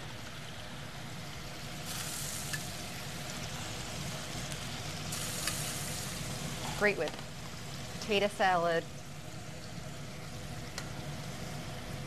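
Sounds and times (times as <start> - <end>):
chicken sizzling on grill pan: 0.2 - 12.0.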